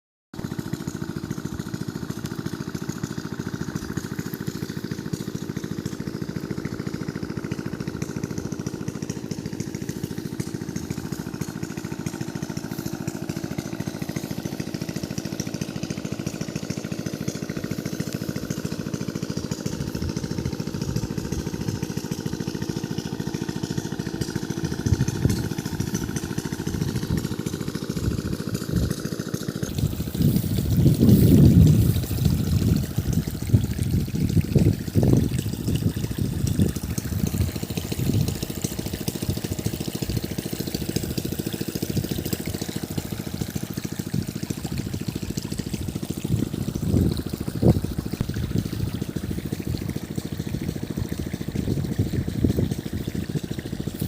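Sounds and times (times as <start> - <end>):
diesel pump engine running: 0.4 - 54.0.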